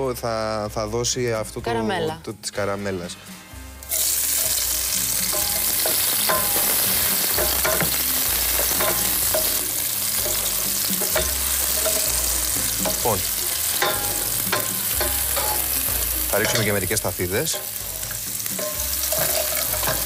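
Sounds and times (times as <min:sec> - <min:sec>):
food sizzling in a frying pan: 0:03.8 - 0:20.0.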